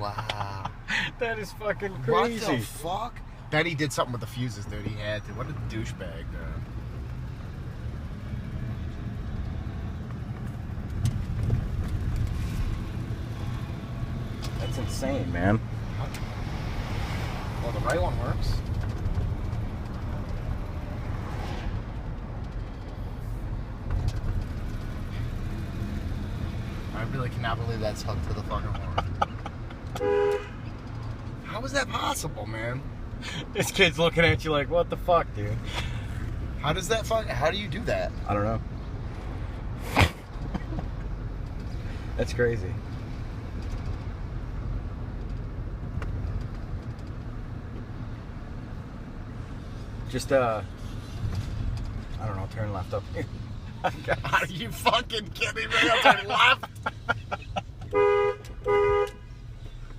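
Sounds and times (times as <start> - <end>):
truck engine and road rumble: 0.0 - 59.9.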